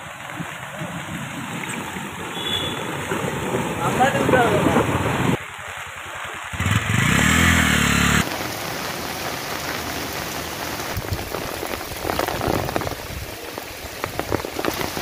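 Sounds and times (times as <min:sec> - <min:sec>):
heavy rain on water: 0:00.0 - 0:15.0.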